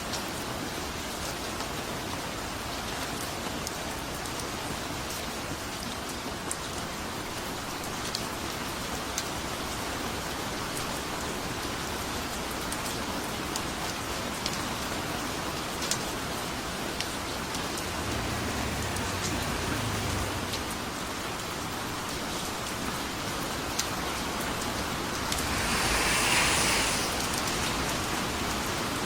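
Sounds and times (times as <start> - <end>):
steady rain hiss: 1.4 - 29.0.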